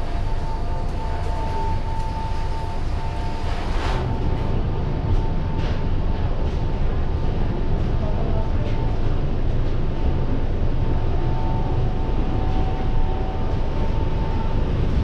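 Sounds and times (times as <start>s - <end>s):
airliner engine rumble and whine: 0.0s - 15.0s.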